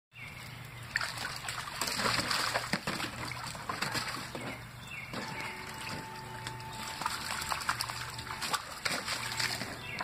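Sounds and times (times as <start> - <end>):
puppy splashing in water: 0.3 - 10.0.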